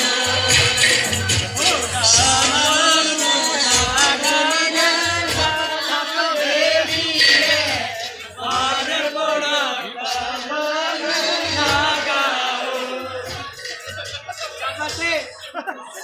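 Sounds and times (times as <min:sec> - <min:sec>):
singing voices: 0:00.0 - 0:16.0.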